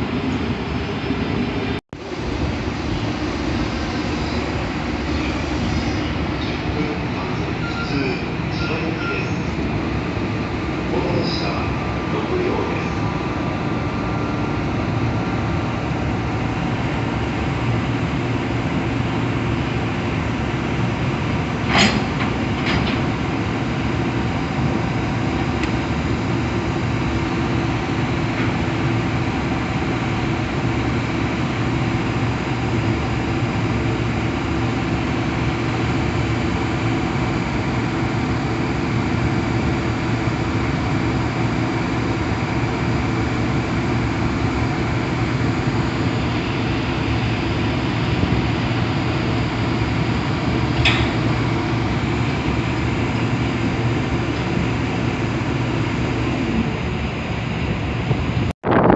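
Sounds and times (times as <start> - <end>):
train rumbling: 0.0 - 58.9.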